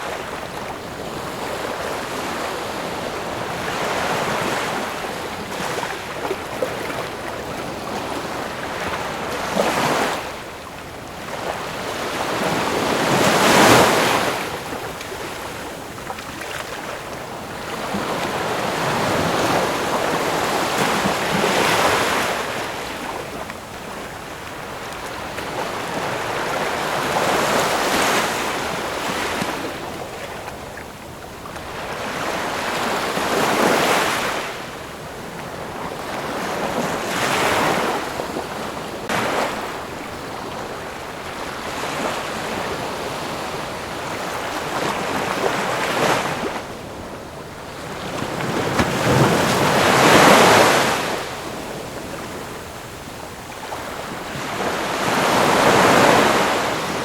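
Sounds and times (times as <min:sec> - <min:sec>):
ocean waves crashing on shore: 0:00.0 - 0:57.0
surf washing: 0:00.0 - 0:57.0.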